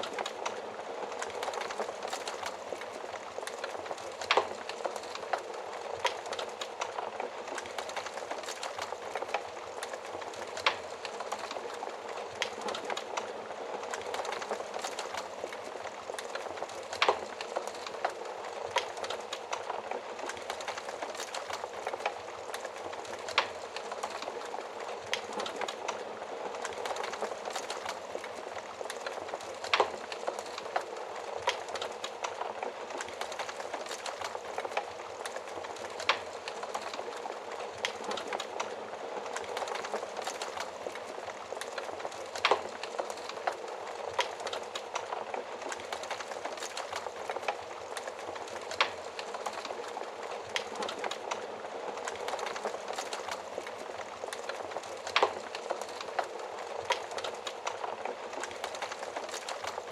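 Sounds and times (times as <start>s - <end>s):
wood fire burning in stove: 0.0s - 59.9s.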